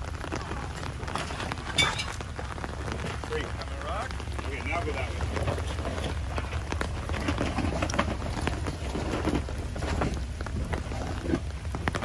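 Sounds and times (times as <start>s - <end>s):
low engine rumble: 0.0s - 12.0s
tyres crunching on stones: 0.0s - 12.0s.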